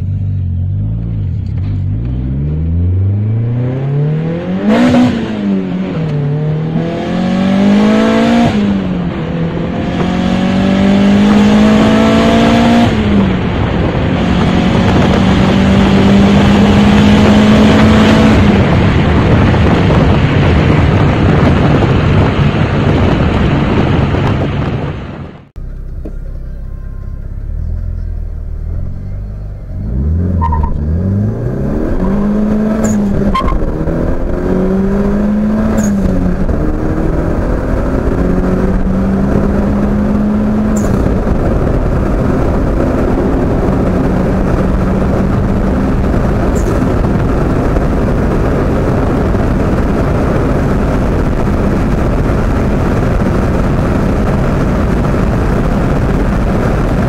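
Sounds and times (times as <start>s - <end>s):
car engine accelerating hard: 0.0s - 57.0s
road and wind noise: 0.0s - 57.0s.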